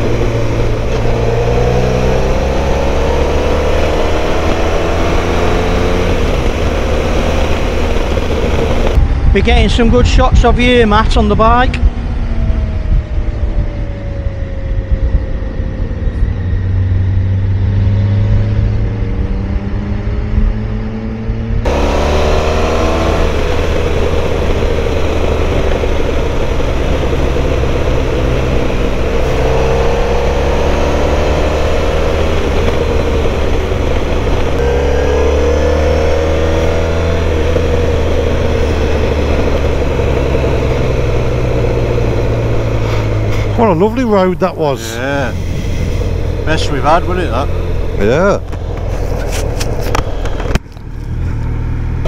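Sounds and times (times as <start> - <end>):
motorcycle engine shifting gears: 0.0 - 9.3, 11.8 - 52.0
wind and road noise: 0.0 - 52.0.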